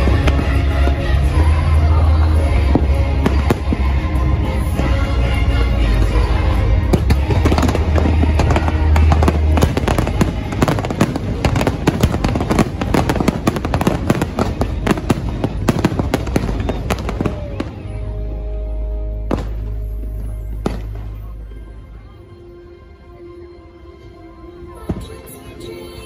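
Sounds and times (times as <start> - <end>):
music playing: 0.0 - 26.0.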